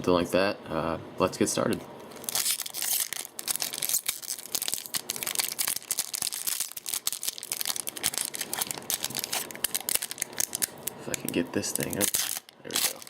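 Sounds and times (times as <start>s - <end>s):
foil wrapper crinkling and tearing: 2.2s - 13.0s.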